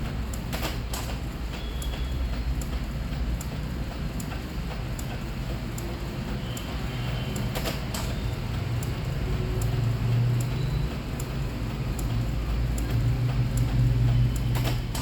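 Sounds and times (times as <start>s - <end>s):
printer mechanical whir: 0.0s - 15.0s
printer ticks and clicks: 0.0s - 15.0s.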